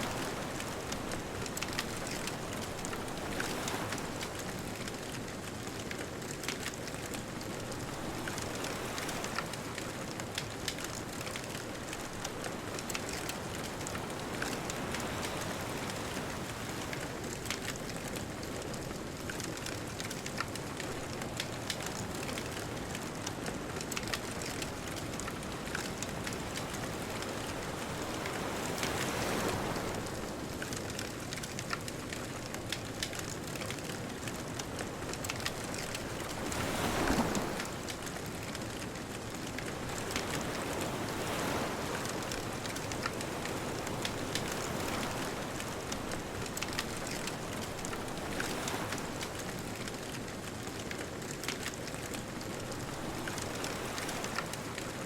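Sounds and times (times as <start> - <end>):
distant ocean waves: 0.0 - 55.0
bonfire crackling and popping: 0.1 - 55.0.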